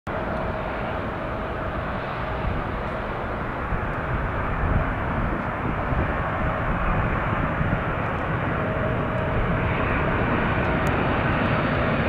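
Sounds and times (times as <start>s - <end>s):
jet engines rushing with whine: 0.1s - 12.0s.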